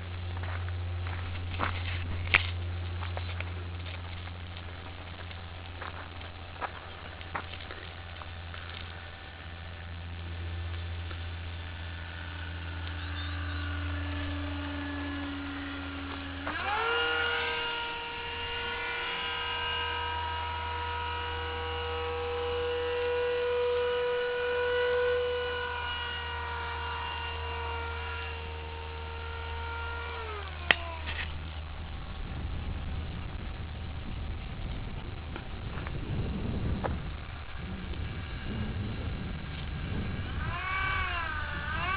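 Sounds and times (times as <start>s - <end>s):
electric ducted fan whining: 0.0s - 41.9s
steady low hum: 0.0s - 41.9s.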